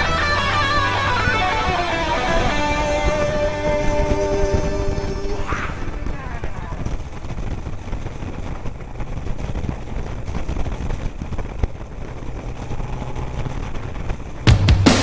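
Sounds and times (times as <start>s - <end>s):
motorcycle running: 0.0s - 15.0s.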